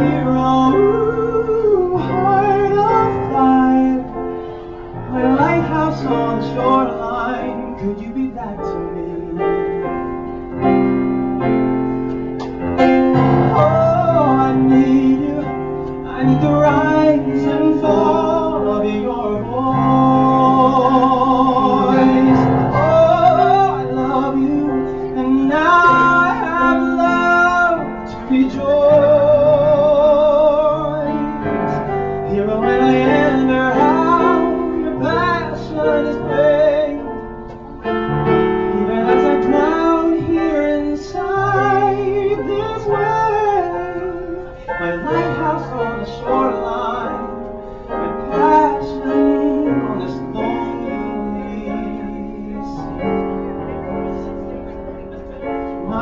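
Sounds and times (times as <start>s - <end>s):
man singing with vibrato: 0.0s - 10.4s, 12.8s - 54.4s, 55.7s - 56.0s
piano accompaniment: 0.0s - 56.0s.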